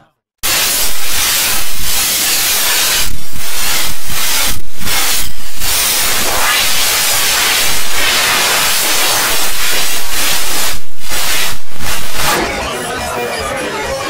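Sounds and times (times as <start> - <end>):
harsh distorted static hiss: 0.4 - 12.5.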